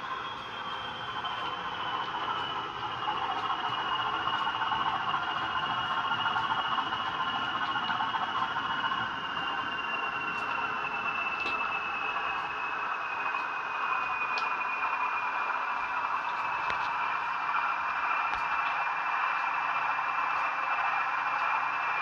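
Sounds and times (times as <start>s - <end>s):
high whine: 0.0s - 18.9s
model locomotive engine sound: 0.0s - 22.0s.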